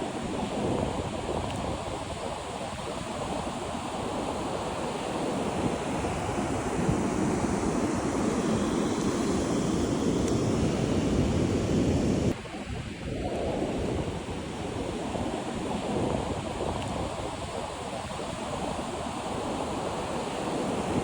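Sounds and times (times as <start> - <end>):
ocean surf on beach: 0.0 - 21.0
wind on microphone: 0.0 - 21.0.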